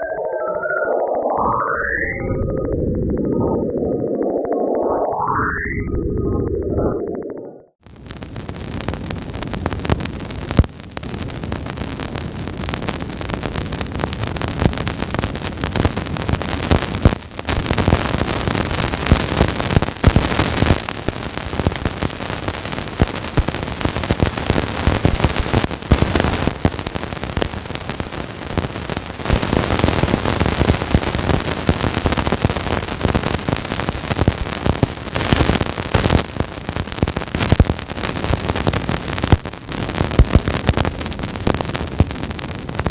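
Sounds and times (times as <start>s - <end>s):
dense crackling static: 0.0s - 42.9s.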